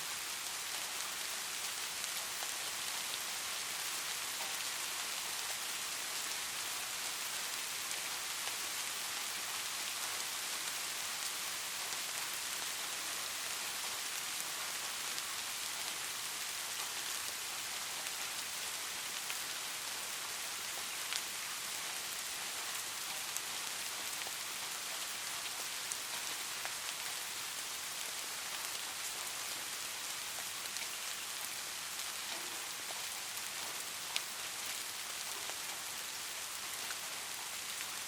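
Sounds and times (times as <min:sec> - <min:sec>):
light rain falling: 0:00.0 - 0:38.0.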